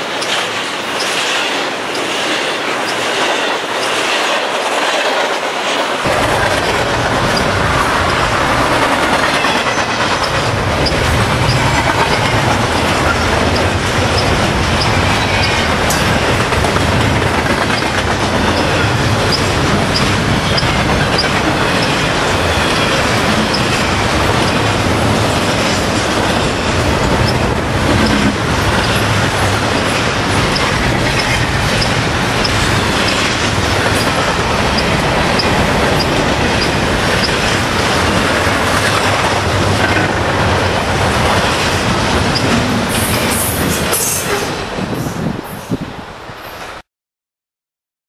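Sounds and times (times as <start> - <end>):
rhythmic clickety-clack: 0.0 - 45.1
steel wheels rumbling on rail: 0.0 - 46.8.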